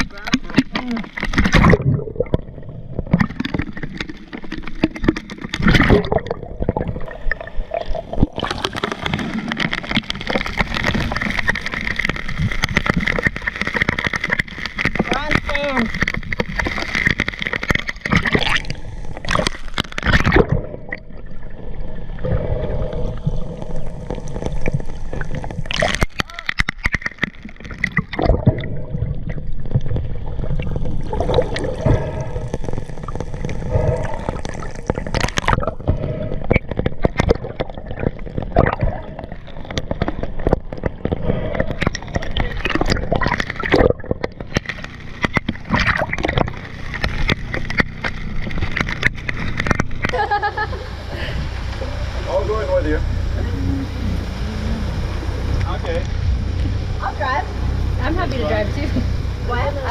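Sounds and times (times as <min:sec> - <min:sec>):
sea water sloshing and gurgling: 0:00.0 - 0:59.9
water splashes: 0:00.0 - 0:59.9.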